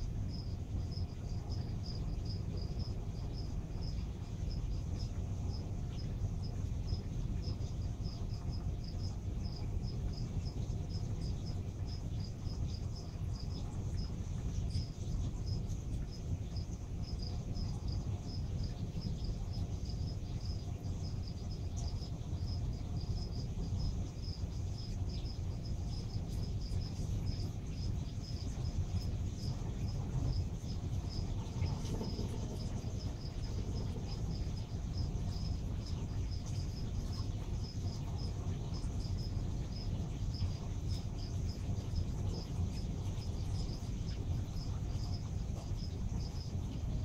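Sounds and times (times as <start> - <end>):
aquarium pumps rumbling: 0.0 - 47.0.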